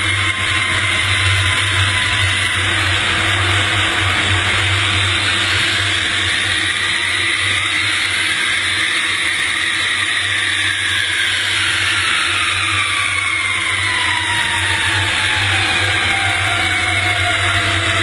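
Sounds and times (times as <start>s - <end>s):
engine whine falling in pitch: 0.0s - 18.0s
jet engine and air rush: 0.0s - 18.0s
low hum: 0.0s - 18.0s.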